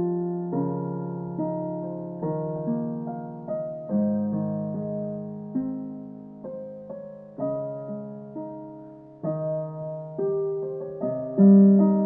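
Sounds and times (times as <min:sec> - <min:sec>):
slow soft piano: 0:00.0 - 0:12.0.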